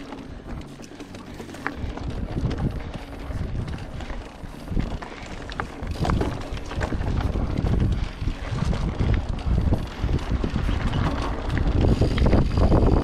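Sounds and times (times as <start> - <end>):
bike rattles and knocks: 0.0 - 13.0
tyres rumbling over loose stones: 0.0 - 13.0
wind on the microphone: 1.8 - 13.0.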